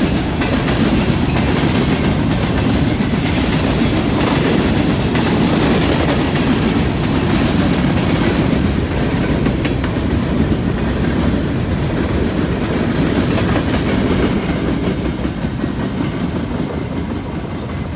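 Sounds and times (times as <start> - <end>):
freight train wheels clattering: 0.0 - 17.9.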